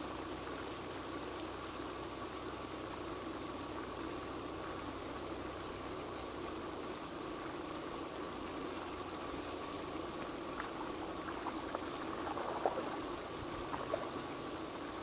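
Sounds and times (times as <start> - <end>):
faint steady hum: 0.0 - 15.0
fountain spray splashing: 0.0 - 15.0.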